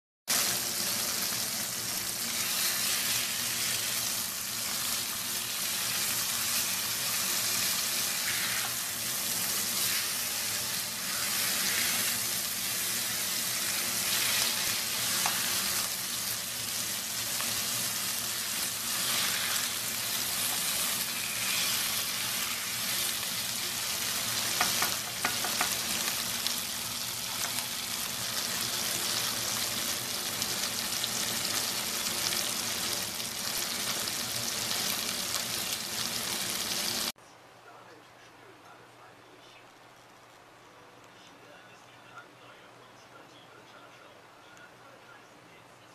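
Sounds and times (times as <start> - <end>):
liver sizzling in frying pan: 0.3 - 37.1
spatula turning food in pan: 0.3 - 37.1.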